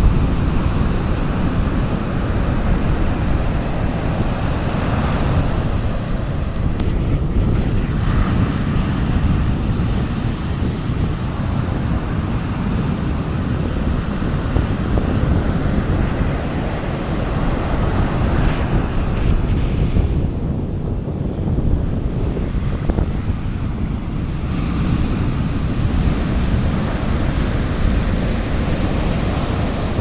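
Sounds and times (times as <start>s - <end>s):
sea waves washing onto beach: 0.0s - 30.0s
wind buffeting microphone: 0.0s - 30.0s.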